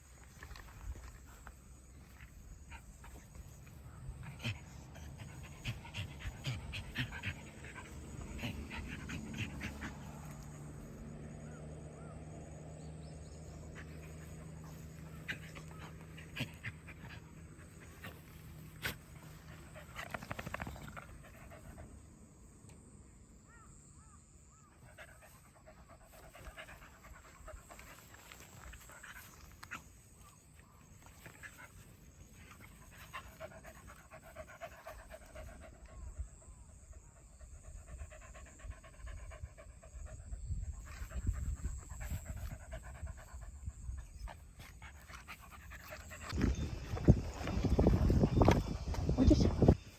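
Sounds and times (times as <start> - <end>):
dog panting: 2.0 - 11.0, 13.5 - 21.9, 24.8 - 30.0, 31.0 - 49.9.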